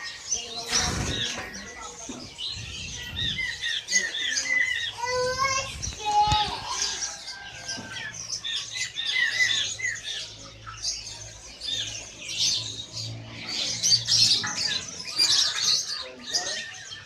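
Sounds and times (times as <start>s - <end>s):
caged songbirds chirping: 0.0s - 17.0s.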